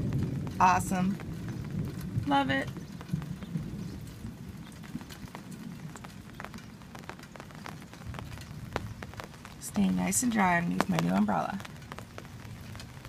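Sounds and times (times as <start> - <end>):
raindrops ticking on umbrella: 0.0 - 13.0
steady rain falling: 0.0 - 13.0.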